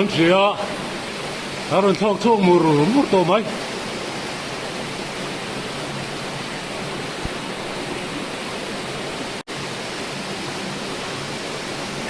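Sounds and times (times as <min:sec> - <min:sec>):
water rushing in a cave: 0:00.0 - 0:12.0.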